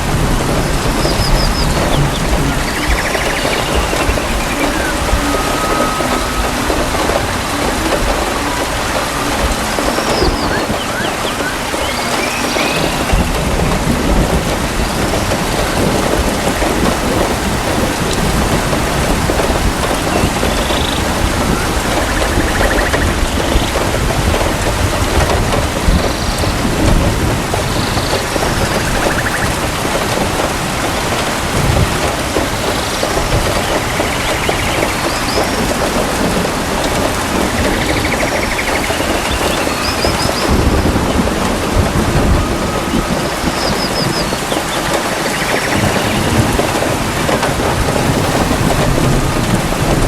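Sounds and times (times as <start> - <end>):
heavy rain: 0.0 - 50.0
rolling thunder: 0.0 - 50.0.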